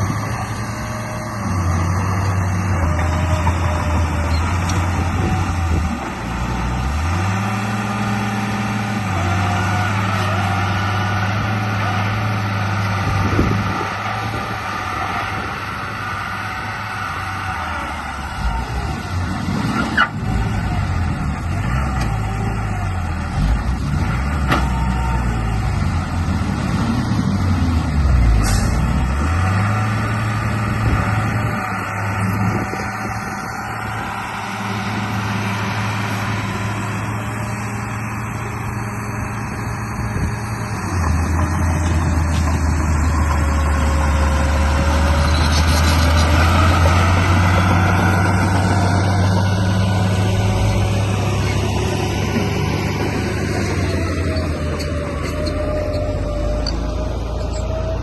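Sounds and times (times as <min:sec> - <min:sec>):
heavy engine running: 0:00.0 - 0:58.0.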